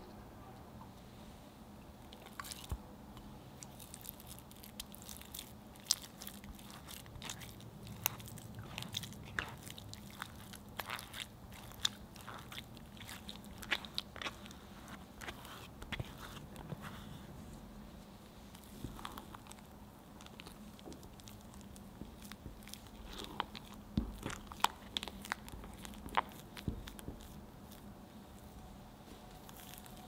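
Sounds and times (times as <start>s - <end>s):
custard squishing through sieve: 3.5s - 17.3s, 18.5s - 30.0s.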